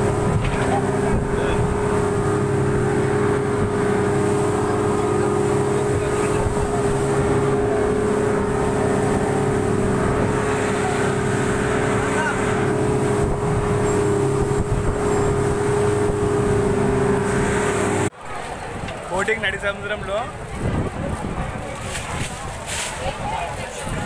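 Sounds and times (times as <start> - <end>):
wake rushing: 0.0 - 18.9, 20.4 - 24.0
speedboat engine droning: 0.0 - 24.0.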